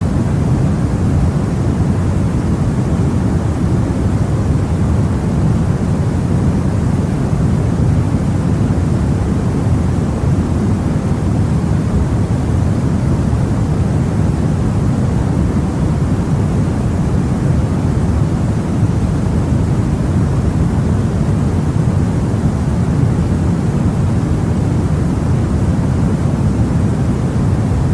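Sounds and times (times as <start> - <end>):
deep rushing hiss noise: 0.0 - 27.9.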